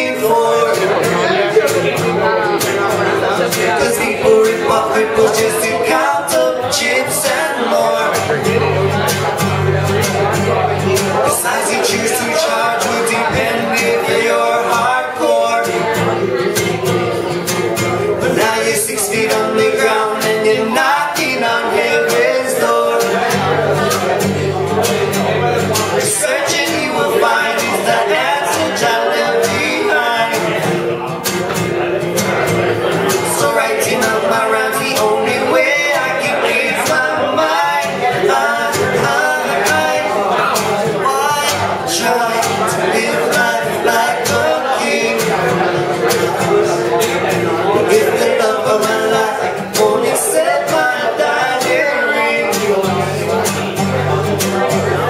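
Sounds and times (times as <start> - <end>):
acoustic guitar strumming: 0.0 - 55.0
man singing: 0.0 - 55.0
man vocalising into microphone: 0.0 - 55.0.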